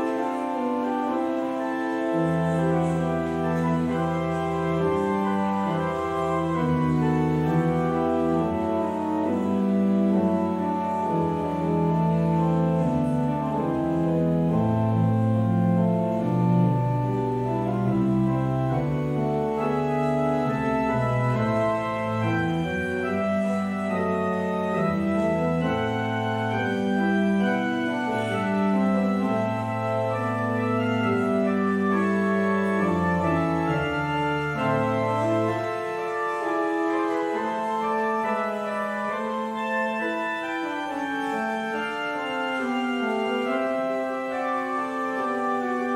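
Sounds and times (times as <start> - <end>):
organ chords: 0.0 - 45.9.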